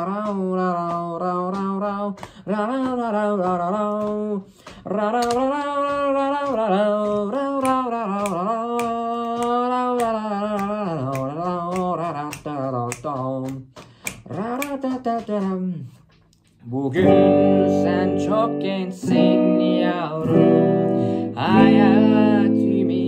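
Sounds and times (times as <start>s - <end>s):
man singing slow melody: 0.0s - 15.9s, 16.6s - 23.0s
sharp rhythmic clicks: 0.0s - 23.0s.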